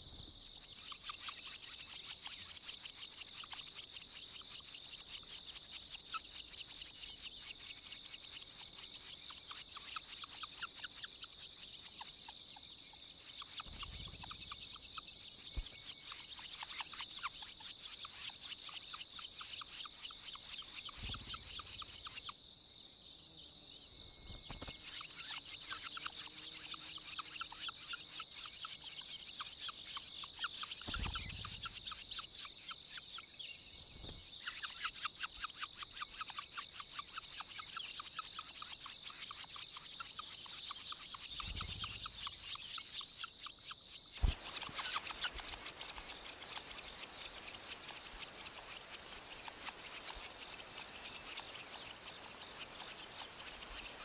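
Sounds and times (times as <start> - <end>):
nestlings begging calls: 0.6 - 22.3, 24.6 - 33.3, 33.9 - 54.0.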